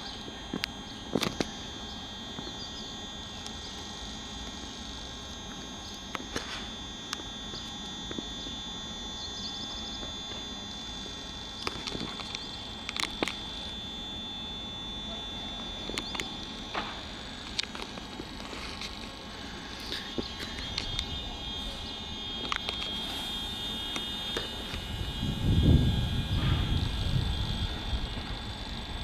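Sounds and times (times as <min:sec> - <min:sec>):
train equipment humming with whine: 0:00.0 - 0:29.0.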